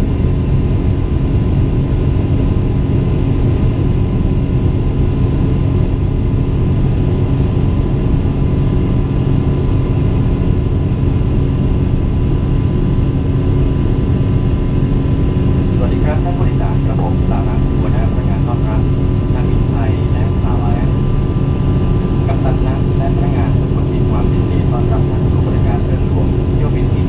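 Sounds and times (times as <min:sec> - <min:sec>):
jet engine rumble in cabin: 0:00.0 - 0:27.0
steady hums: 0:00.0 - 0:27.0.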